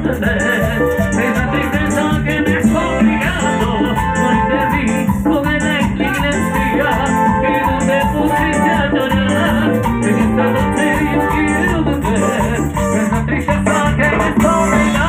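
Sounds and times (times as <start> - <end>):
high rattling percussion: 0.0 - 15.0
live latin dance music: 0.0 - 15.0
person singing: 0.0 - 15.0.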